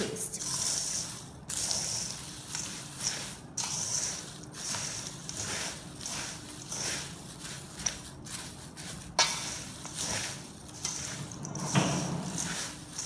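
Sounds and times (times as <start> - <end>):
snack mix rattling in steel bowl: 0.4 - 13.0.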